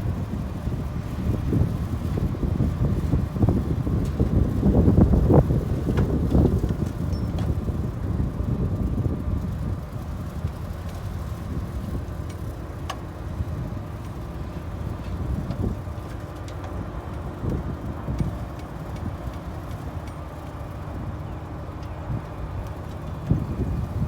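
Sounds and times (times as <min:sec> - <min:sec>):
diesel engine rumbling: 0:00.0 - 0:24.0
faint clicks and clanks: 0:02.0 - 0:24.0.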